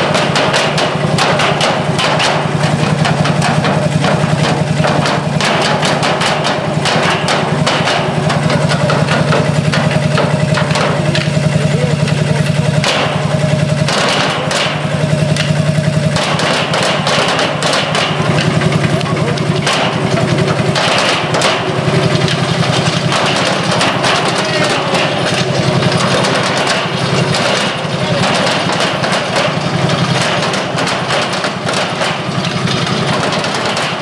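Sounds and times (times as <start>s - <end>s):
stationary engine running: 0.0s - 34.0s
sticks striking steel drums: 0.0s - 34.0s.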